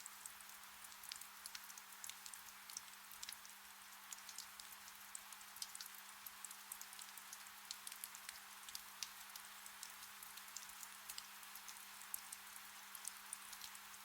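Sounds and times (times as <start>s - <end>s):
gentle rain falling: 0.0s - 14.0s.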